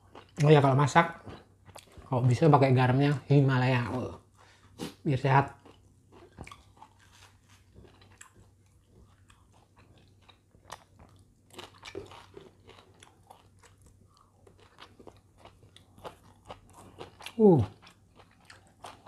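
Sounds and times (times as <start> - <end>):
chewing with soft crunches: 0.0 - 2.4, 4.3 - 19.0
faint low hum: 0.0 - 19.0.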